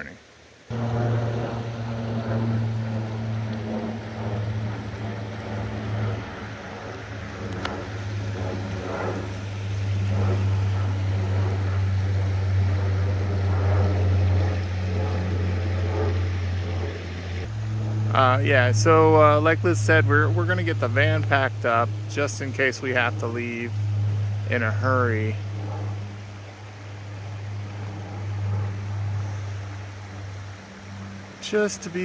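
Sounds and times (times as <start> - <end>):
propeller aircraft droning overhead: 0.0 - 32.0.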